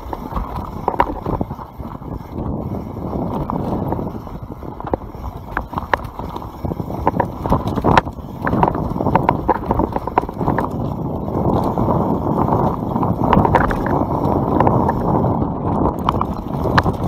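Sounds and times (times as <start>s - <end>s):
bike clattering over roots: 0.0s - 17.0s
wind rumble on microphone: 0.0s - 17.0s.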